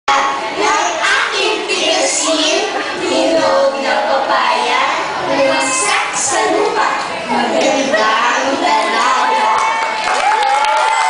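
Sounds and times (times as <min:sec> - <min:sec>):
children singing: 0:00.1 - 0:10.0.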